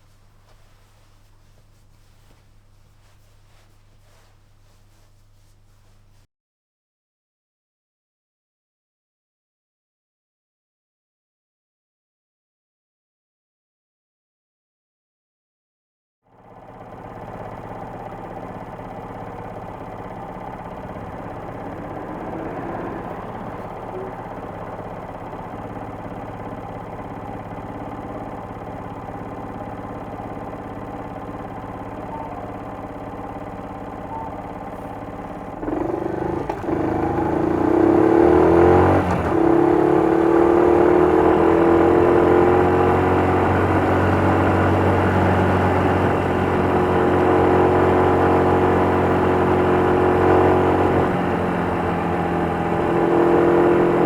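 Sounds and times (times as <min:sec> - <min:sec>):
motorcycle engine running: 0:00.0 - 0:06.2, 0:16.4 - 0:54.0.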